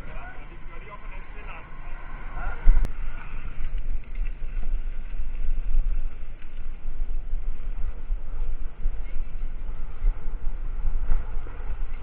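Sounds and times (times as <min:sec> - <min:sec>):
bicycle road noise: 0:00.0 - 0:12.0
wind buffeting microphone: 0:00.0 - 0:12.0.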